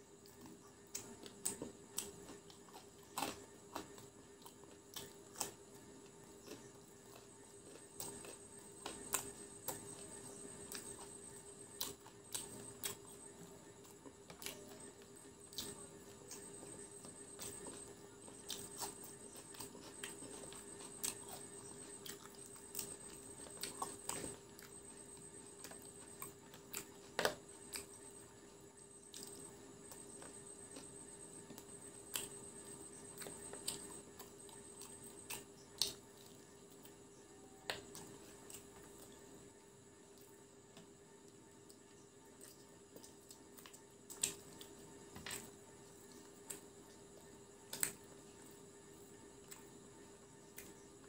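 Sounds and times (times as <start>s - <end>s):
faint high whine: 0.0s - 51.0s
person chewing crunchy food: 0.1s - 40.4s, 41.7s - 51.0s.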